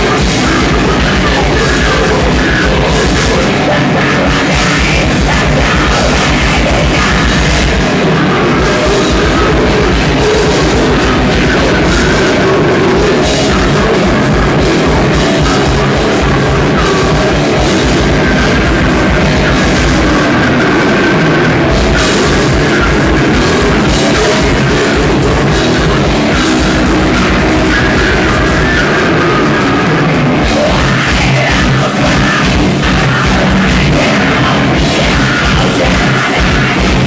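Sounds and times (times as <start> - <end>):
metal band playing live: 0.0 - 37.0
rapid kick drum beat: 0.0 - 37.0.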